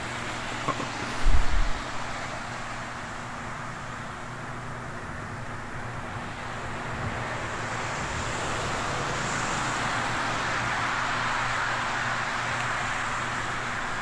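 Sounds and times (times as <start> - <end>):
tyres hissing on wet road: 0.0 - 4.6, 5.6 - 14.0
low engine hum: 0.0 - 14.0.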